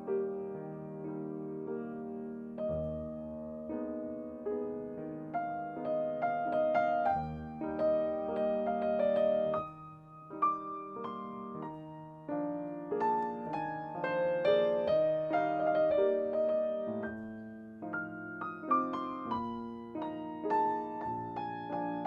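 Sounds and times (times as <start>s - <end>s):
slow gentle solo piano: 0.0s - 22.0s.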